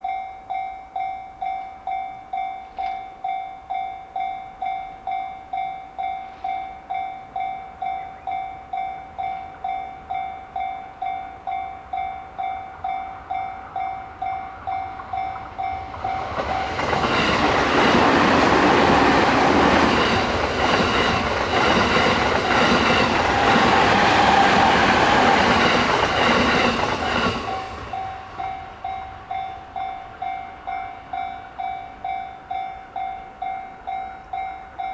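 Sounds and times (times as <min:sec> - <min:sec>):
level-crossing warning bell ringing: 0:00.0 - 0:34.9
train wheels on rails: 0:01.4 - 0:34.9.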